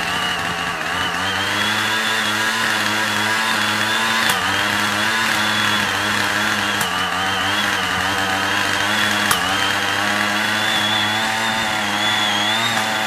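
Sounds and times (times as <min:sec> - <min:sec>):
high fan whine: 0:00.0 - 0:13.0
mist blower engine buzzing: 0:00.0 - 0:13.0.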